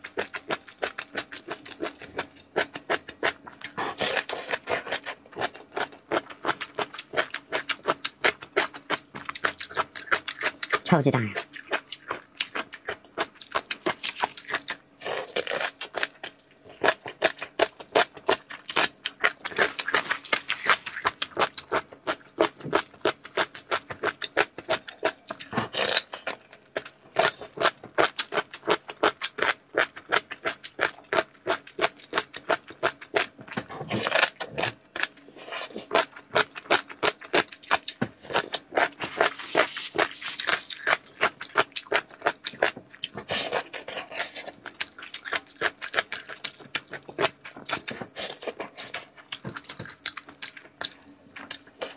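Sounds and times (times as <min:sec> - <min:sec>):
wet sticky chewing: 0:00.0 - 0:51.9.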